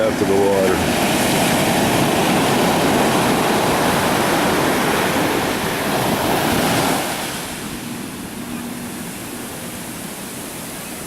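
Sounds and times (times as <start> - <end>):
waves breaking: 0.0 - 11.0.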